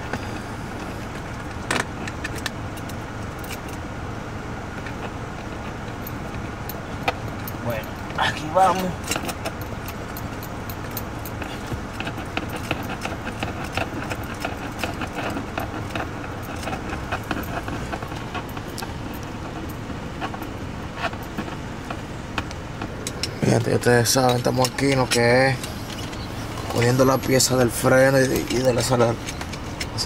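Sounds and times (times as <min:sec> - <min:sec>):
light metallic clicks and rattles: 0:00.0 - 0:03.9, 0:04.7 - 0:30.0
steady background hum: 0:00.0 - 0:30.0.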